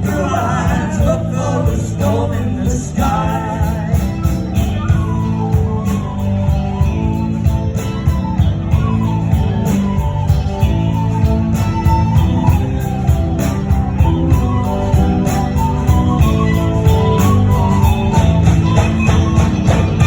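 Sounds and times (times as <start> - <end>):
folk-rock band playing live: 0.0 - 20.0
steady drum beat: 0.0 - 20.0.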